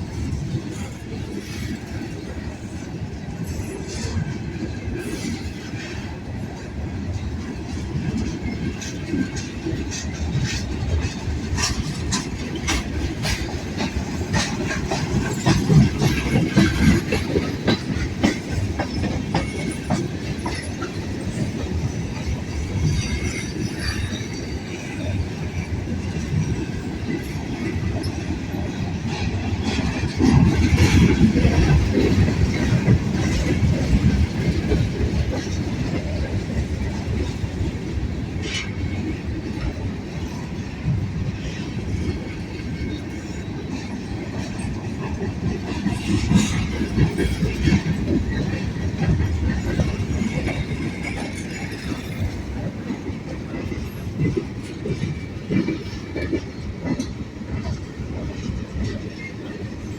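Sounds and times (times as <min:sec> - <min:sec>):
train rumble: 0:00.0 - 0:59.9
wheels clacking over rail joints: 0:00.0 - 0:59.9.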